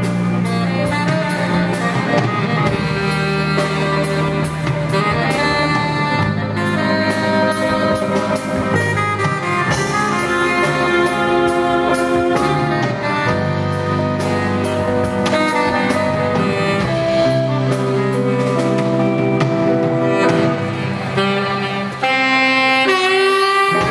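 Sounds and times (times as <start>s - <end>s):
live band playing: 0.0s - 23.9s
saxophone melody: 0.0s - 23.9s.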